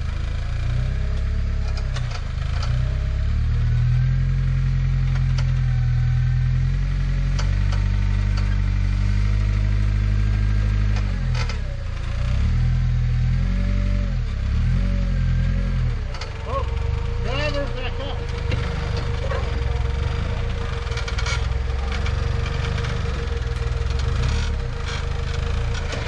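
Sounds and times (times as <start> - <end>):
engine revving under load: 0.0 - 26.0.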